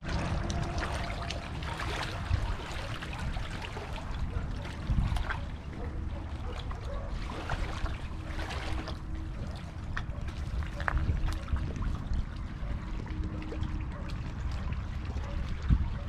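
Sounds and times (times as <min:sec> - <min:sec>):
waves splashing against jetty: 0:00.0 - 0:16.0
wind rumbling on microphone: 0:00.0 - 0:16.0.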